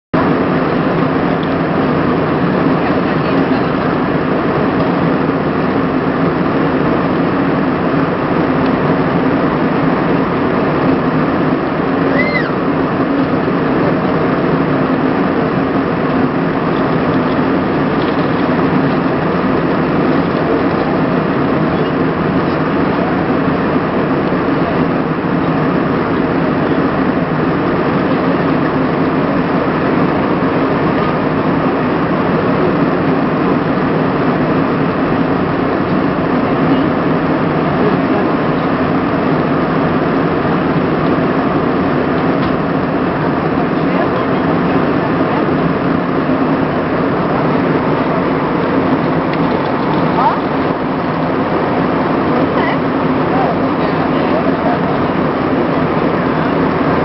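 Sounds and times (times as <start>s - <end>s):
airliner cabin engine noise: 0.1s - 57.0s.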